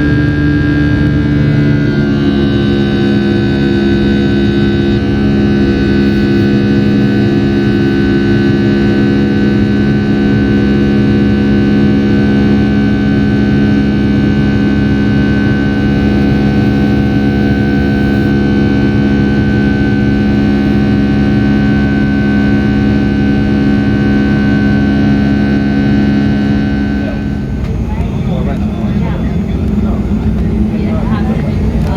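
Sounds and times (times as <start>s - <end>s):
jet engine drone in cabin: 0.0s - 31.9s.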